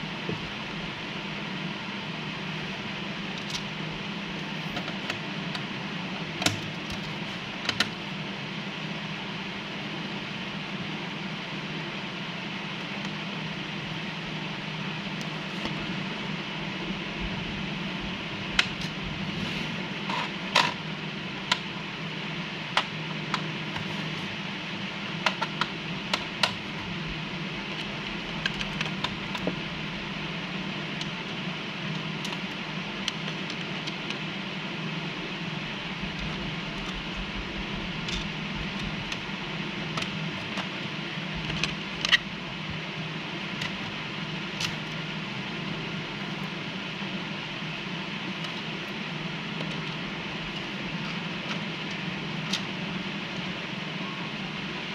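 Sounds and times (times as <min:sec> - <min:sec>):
background hum and hiss: 0:00.0 - 0:54.9.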